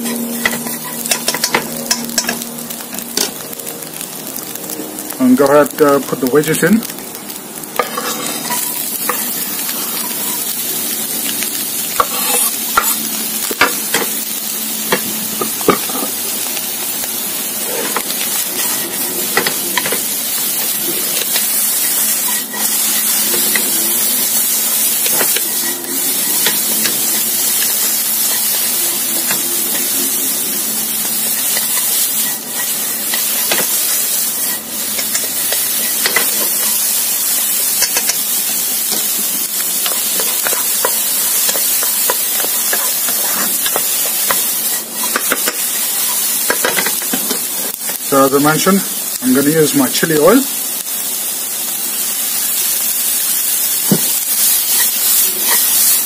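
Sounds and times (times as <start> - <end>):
vegetables and egg sizzling in wok: 0.0 - 56.0.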